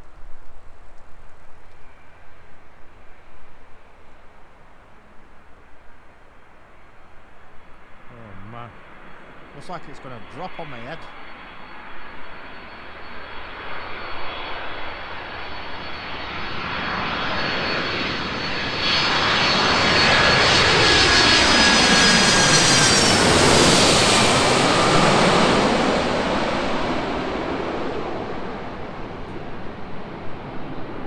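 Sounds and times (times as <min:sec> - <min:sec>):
jet airliner passing overhead: 0:05.0 - 0:31.0.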